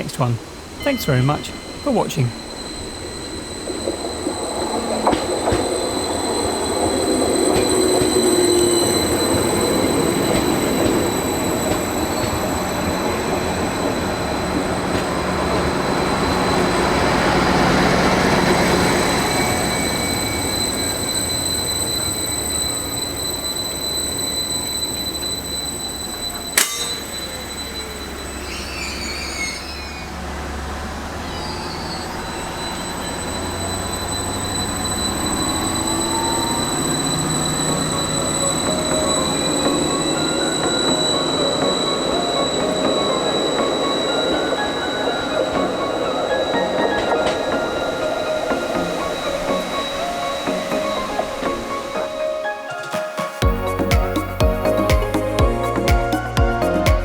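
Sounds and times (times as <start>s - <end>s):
high whine: 0.0s - 52.7s
train rumbling on rails: 0.0s - 57.0s.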